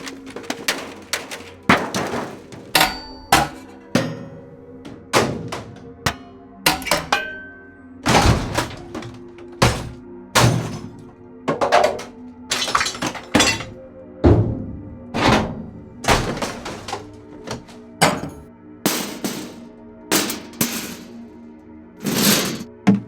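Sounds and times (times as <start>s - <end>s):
breaking debris: 0.0s - 19.6s
heavy impacts and crashes: 0.0s - 19.6s.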